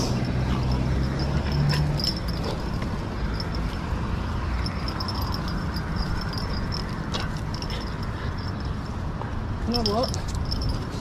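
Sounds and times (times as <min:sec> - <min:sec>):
traffic hum: 0:00.0 - 0:11.0
dog leash jingles: 0:00.1 - 0:08.9, 0:09.6 - 0:11.0.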